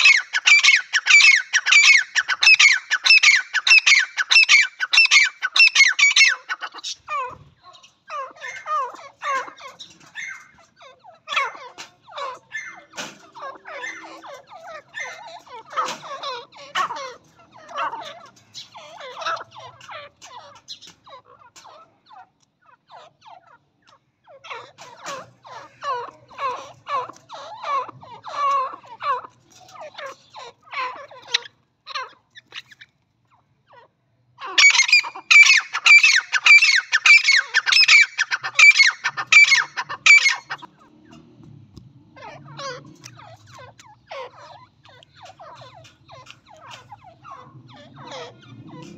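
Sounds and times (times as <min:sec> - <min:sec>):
francolins calling: 0:00.0 - 0:41.3, 0:42.1 - 0:48.9.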